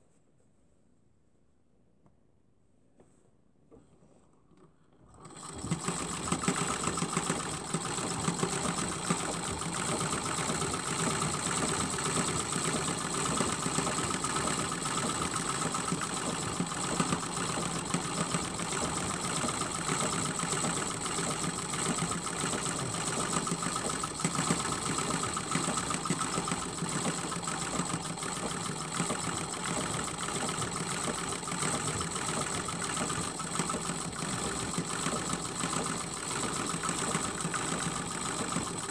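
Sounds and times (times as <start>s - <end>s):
sewing machine running: 5.1s - 38.9s.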